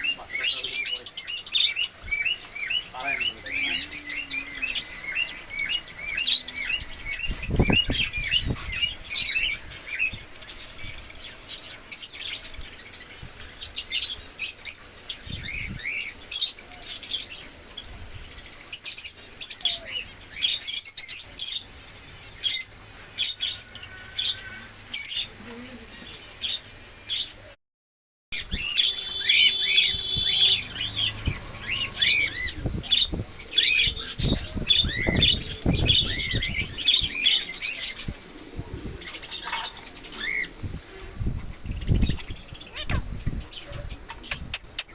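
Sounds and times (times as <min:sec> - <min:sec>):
parrots chirping and calling: 0:00.0 - 0:27.4, 0:28.4 - 0:44.9.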